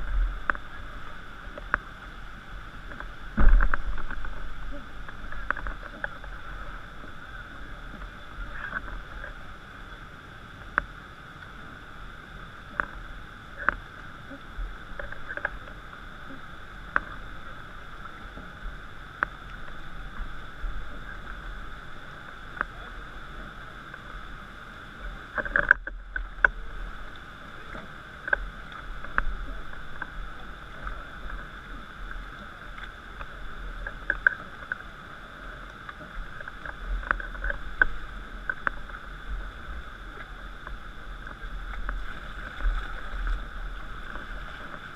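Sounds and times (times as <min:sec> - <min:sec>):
muffled rushing river rapids: 0:00.0 - 0:44.9.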